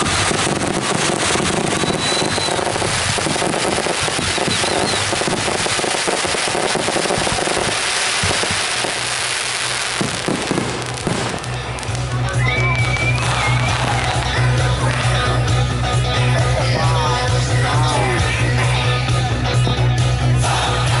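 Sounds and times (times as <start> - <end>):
fireworks bangs and crackling: 0.0 - 18.3.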